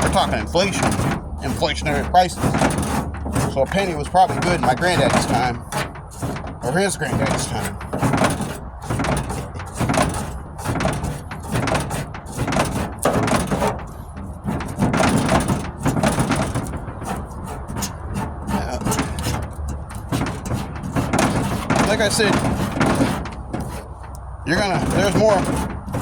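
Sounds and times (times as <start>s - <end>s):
rasp scraping body filler: 0.0s - 26.0s.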